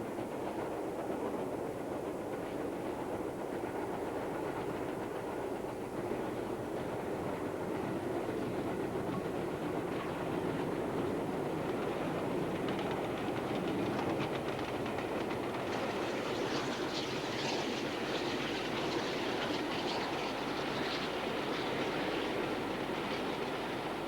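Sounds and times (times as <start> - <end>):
steam train running: 0.0 - 24.0.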